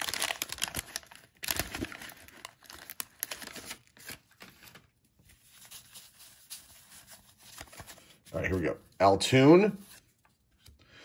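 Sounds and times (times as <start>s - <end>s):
waxed paper wrapper crinkling: 0.0s - 10.7s.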